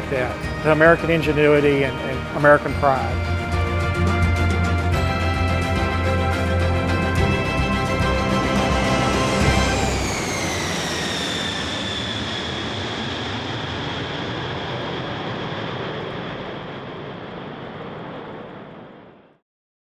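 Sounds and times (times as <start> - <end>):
jet engine whine and rush: 0.0 - 19.4.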